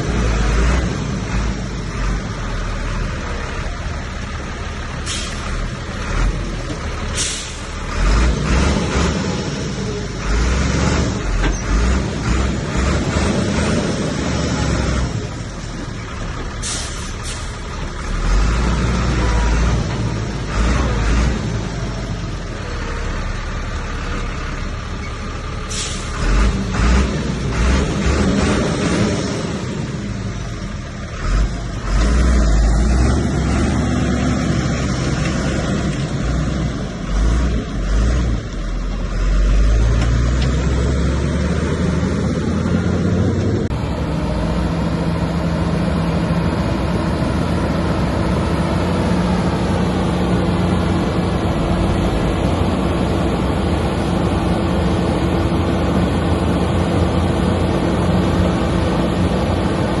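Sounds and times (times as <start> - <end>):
diesel engine rumbling under load: 0.0 - 60.0.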